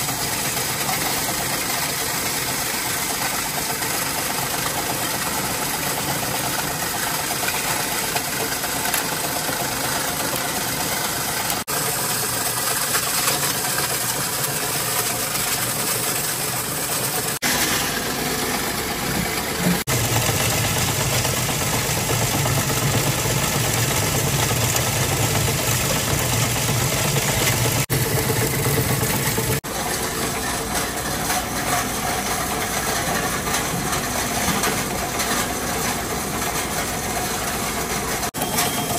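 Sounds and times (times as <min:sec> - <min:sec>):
plastic granulator grinding: 0:00.0 - 0:38.9.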